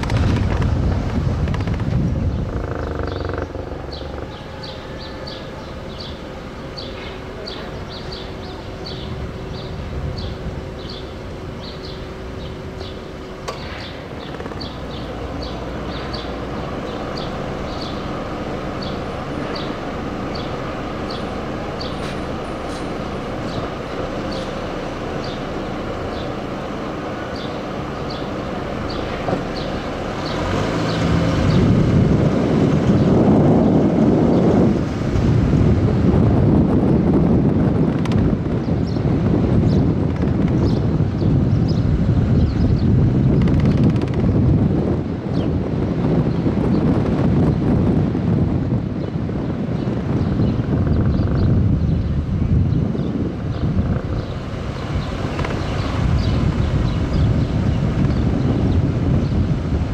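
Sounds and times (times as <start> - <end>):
city street traffic: 0.0 - 59.9.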